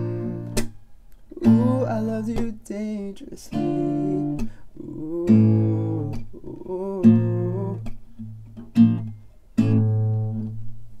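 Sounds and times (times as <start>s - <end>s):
acoustic guitar strums: 0.0s - 11.0s.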